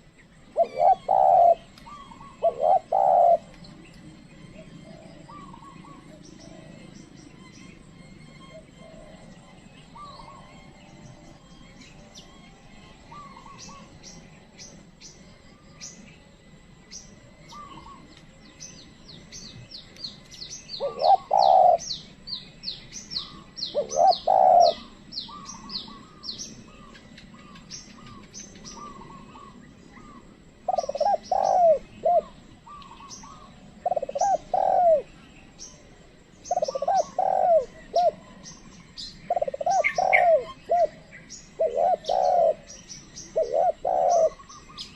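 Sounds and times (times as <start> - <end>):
dove cooing: 0.0 - 16.5, 17.1 - 44.9
small birds chirping: 0.0 - 44.9.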